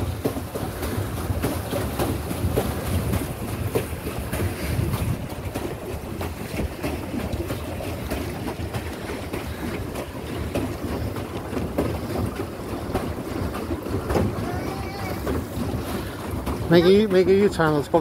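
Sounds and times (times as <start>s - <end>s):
wind rumbling on microphone: 0.0s - 17.0s
water lapping around boat: 0.0s - 18.0s.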